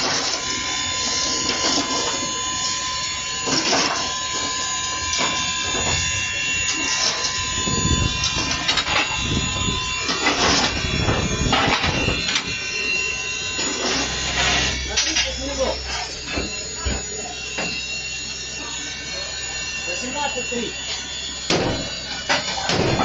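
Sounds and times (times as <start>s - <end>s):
steady high tone: 0.0s - 23.0s.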